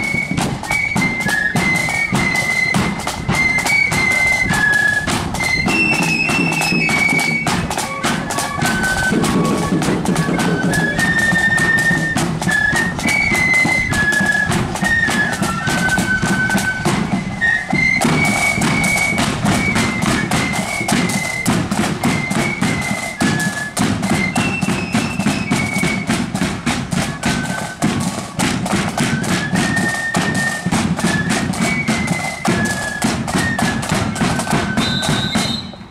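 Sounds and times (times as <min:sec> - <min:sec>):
drumbeats: 0:00.0 - 0:35.9
flutes playing a melody: 0:00.0 - 0:35.9.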